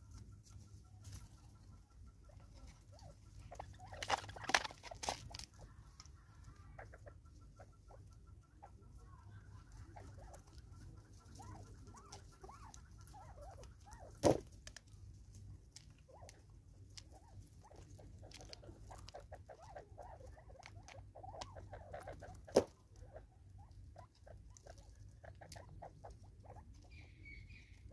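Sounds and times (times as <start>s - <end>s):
birds clucking softly: 0.0s - 27.9s.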